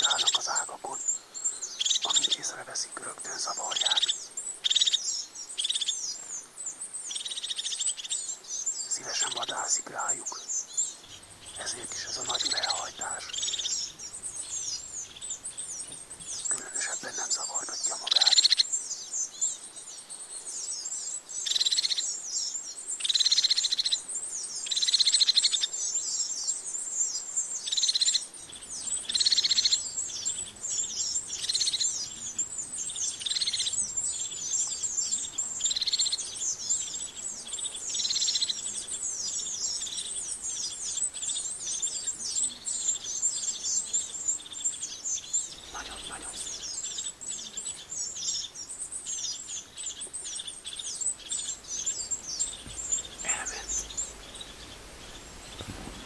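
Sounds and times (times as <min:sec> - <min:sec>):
small birds chirping rapidly: 0:00.0 - 0:56.0.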